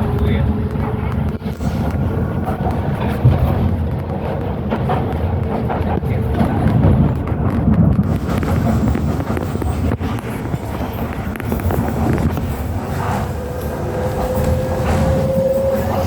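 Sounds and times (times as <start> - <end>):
rail clicks and knocks: 0.0 - 16.0
train wheels rumbling: 0.0 - 16.0.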